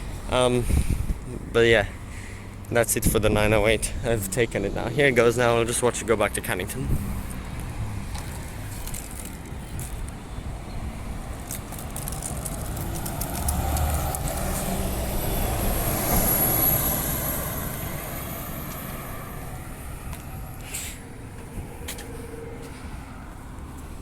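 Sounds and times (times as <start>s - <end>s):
bus engine driving past: 3.7s - 24.0s.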